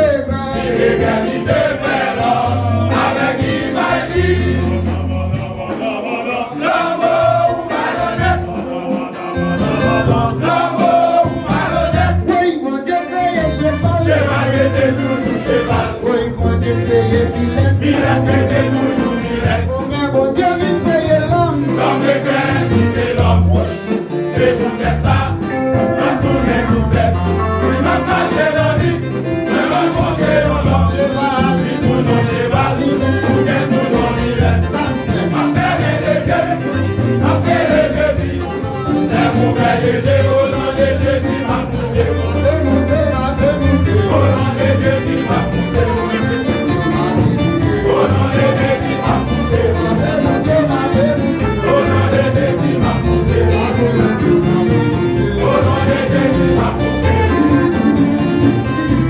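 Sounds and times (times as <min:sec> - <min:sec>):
deep held bass notes: 0:00.0 - 0:12.3, 0:13.4 - 0:59.0
live band accompaniment: 0:00.0 - 0:59.0
men singing gospel in harmony: 0:00.0 - 0:59.0.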